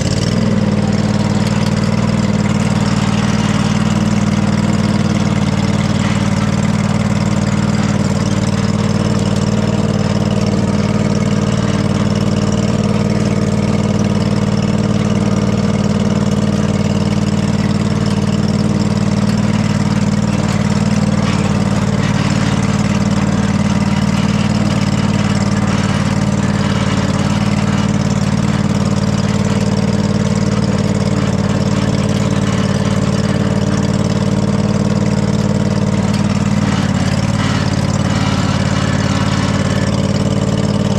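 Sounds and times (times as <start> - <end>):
riding lawn mower engine running: 0.0 - 40.9.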